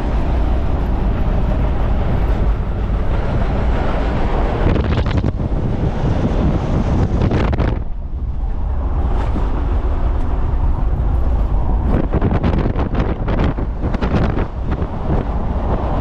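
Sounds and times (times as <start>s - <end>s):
moving vehicle rumble: 0.0s - 16.0s
wind buffeting microphone: 0.0s - 16.0s.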